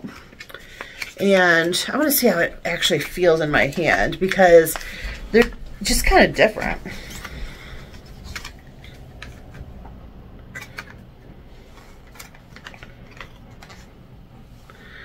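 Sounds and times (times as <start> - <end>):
cardboard package rustling: 0.0 - 14.6.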